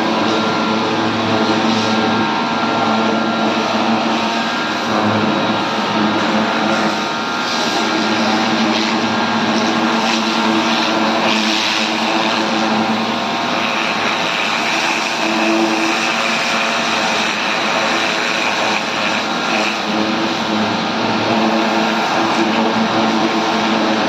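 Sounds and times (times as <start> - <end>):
pressure washer engine drone: 0.0 - 24.0.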